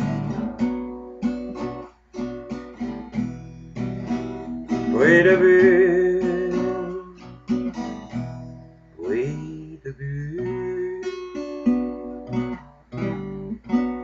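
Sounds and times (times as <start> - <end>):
acoustic guitar picked and strummed: 0.0 - 14.0.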